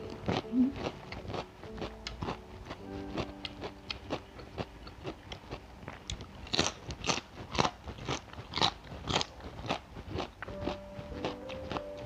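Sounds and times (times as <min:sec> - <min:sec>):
crunching raw vegetables: 0:00.0 - 0:12.0.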